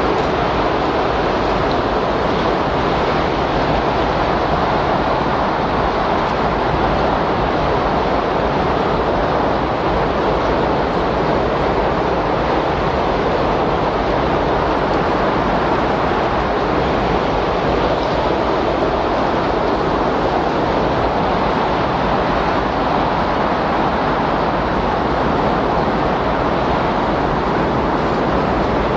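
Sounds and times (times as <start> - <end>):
strong wind rushing: 0.0 - 28.9.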